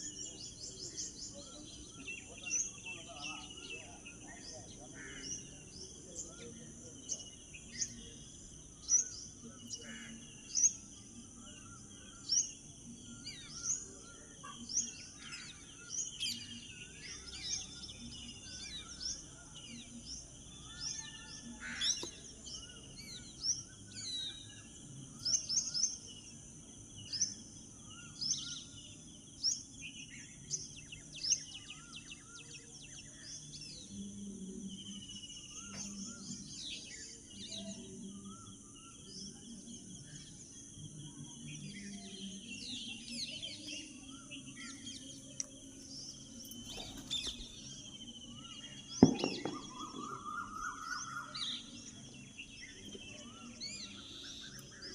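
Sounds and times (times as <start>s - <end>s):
flock of small birds chirping: 0.0s - 54.9s.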